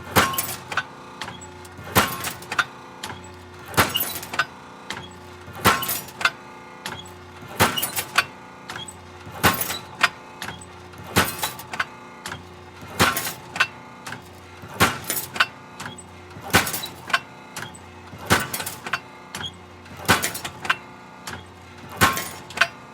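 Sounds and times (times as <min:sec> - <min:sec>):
hydraulic metal shear clanking: 0:00.1 - 0:10.6, 0:11.2 - 0:12.4, 0:14.8 - 0:22.8.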